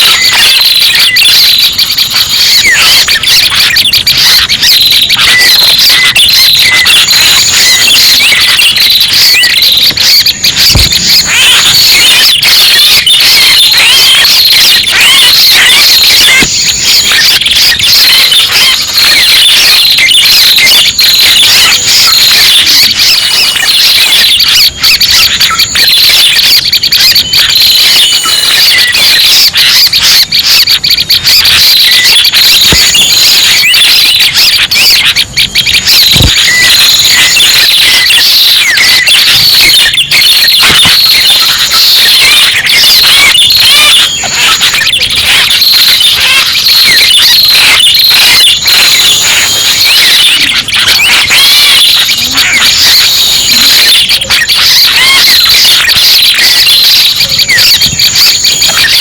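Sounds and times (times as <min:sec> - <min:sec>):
bird chirping and trilling: 0:00.0 - 0:29.1, 0:29.9 - 0:53.5.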